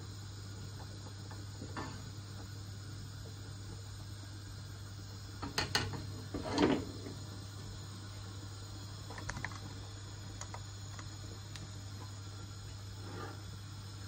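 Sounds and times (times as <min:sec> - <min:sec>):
sauce simmering in a pan: 0:00.0 - 0:14.0
steady low hum: 0:00.0 - 0:14.0.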